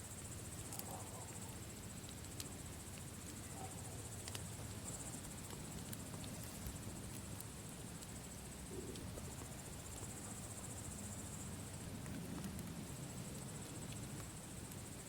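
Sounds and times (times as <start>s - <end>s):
campfire rumbling and crackling: 0.0s - 15.0s
crickets trilling: 0.0s - 15.0s.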